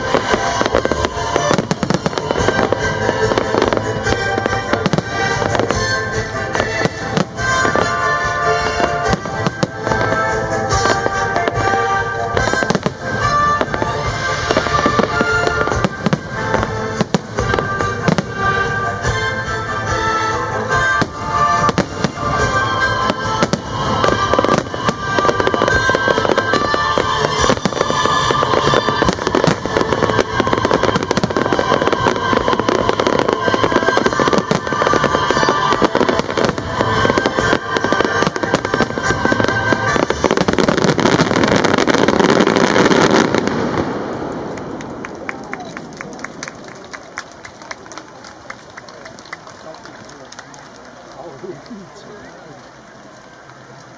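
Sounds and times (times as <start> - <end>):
firework shells bursting and crackling: 0.0 - 53.9.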